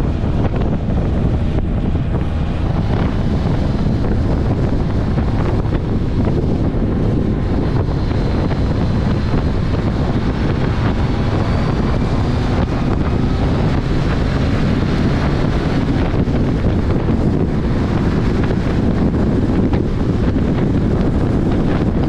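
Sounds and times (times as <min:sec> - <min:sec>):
car engine rumble: 0:00.0 - 0:22.0
road noise: 0:00.0 - 0:22.0
wind buffeting microphone: 0:00.0 - 0:22.0.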